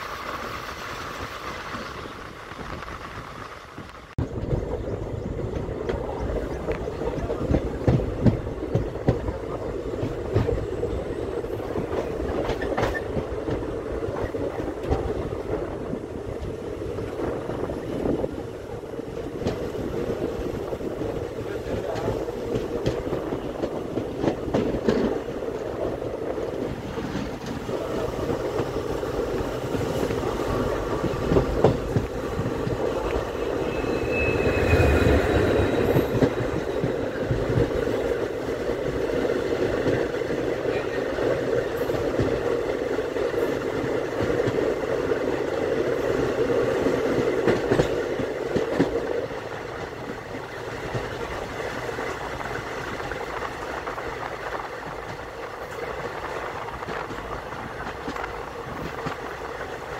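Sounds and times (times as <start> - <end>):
train rushing past: 0.0 - 59.4
train wheels clattering over rail joints: 0.0 - 59.9.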